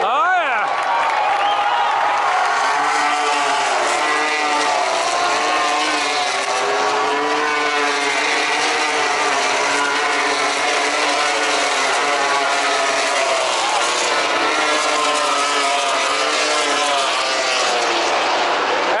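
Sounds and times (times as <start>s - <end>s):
racing motorcycles passing: 1.8s - 19.0s.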